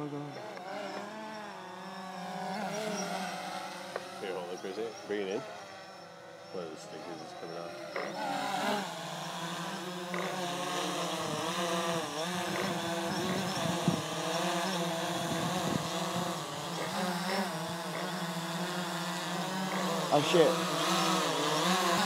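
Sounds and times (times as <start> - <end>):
drone propellers buzzing: 0.0 - 22.0.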